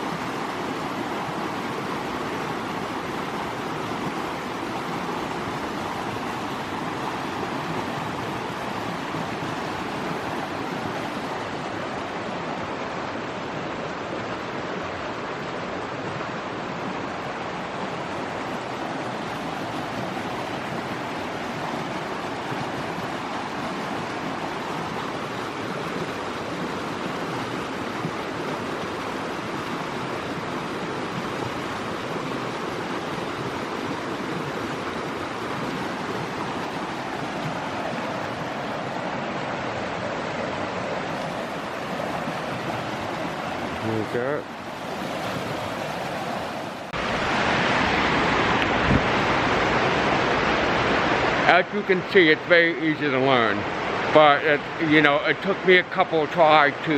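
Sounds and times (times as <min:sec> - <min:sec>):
creek water rushing: 0:00.0 - 0:56.9.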